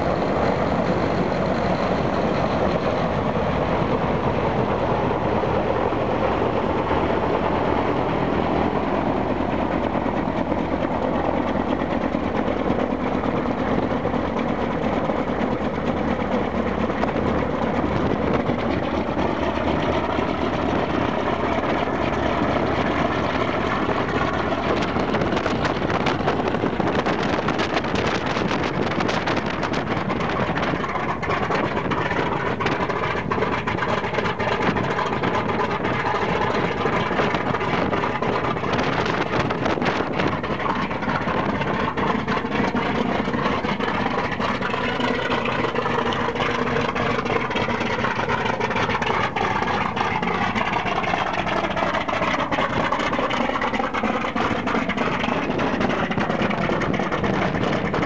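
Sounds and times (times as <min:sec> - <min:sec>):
piston engines droning: 0:00.0 - 0:58.0
wind gusting on microphone: 0:00.0 - 0:58.0.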